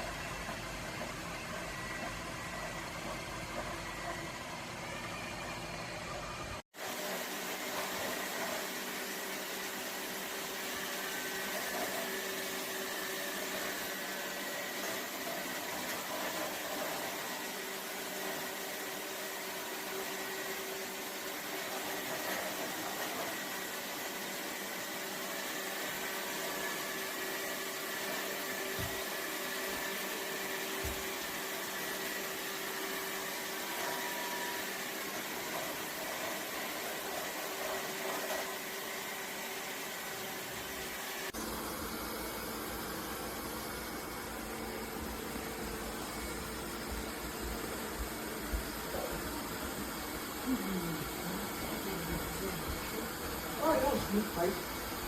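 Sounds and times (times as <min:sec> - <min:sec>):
robot vacuum whirring: 0:00.3 - 0:55.0.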